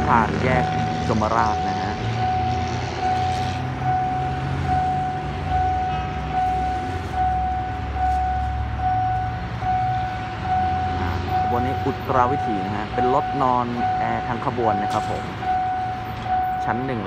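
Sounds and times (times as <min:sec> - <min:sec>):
level crossing alarm tone: 0:00.0 - 0:17.0.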